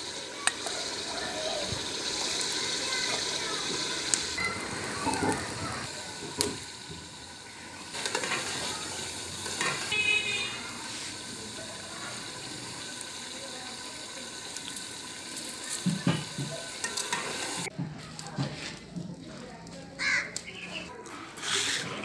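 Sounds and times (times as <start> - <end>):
broth bubbling and sizzling: 0.0 - 22.0.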